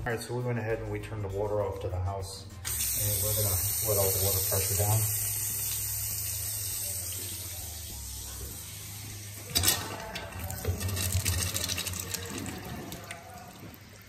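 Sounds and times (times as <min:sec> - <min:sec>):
faucet running into sink: 0:02.7 - 0:14.0.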